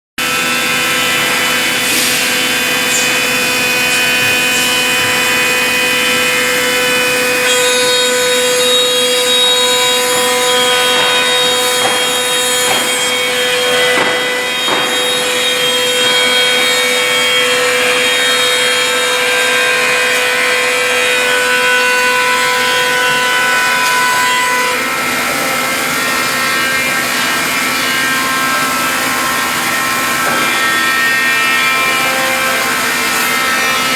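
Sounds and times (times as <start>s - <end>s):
router spindle whine: 0.2s - 33.9s
wood cutting rasping: 0.2s - 33.9s.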